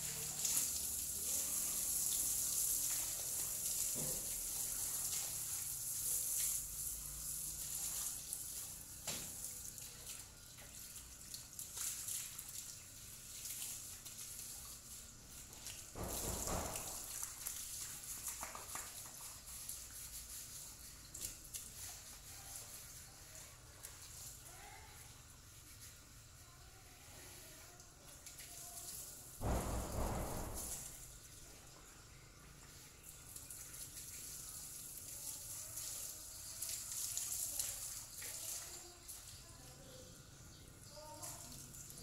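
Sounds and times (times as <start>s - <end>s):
hose water splashing on ground: 0.0s - 42.0s.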